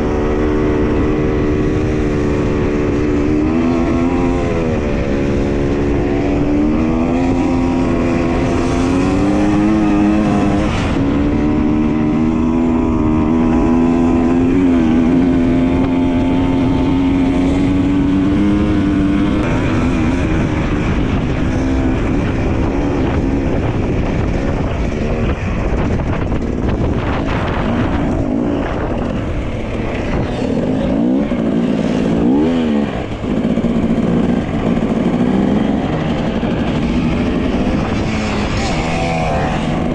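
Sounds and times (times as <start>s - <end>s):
dirt bike engine: 0.0s - 39.9s
wind rumble: 0.0s - 39.9s.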